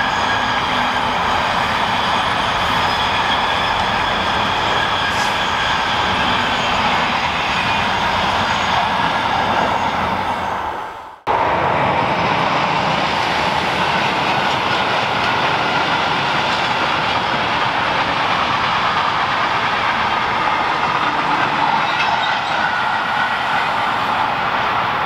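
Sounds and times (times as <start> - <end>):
freight train wheels on rails: 0.0 - 25.0.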